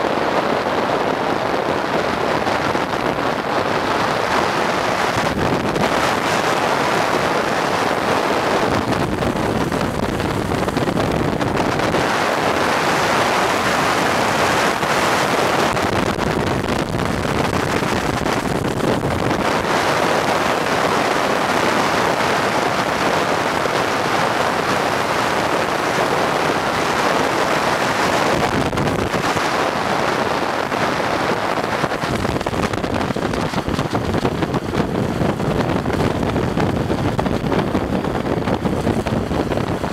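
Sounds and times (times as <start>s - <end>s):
wheels rolling on asphalt: 0.0s - 39.9s
wind rushing over microphone: 0.0s - 39.9s.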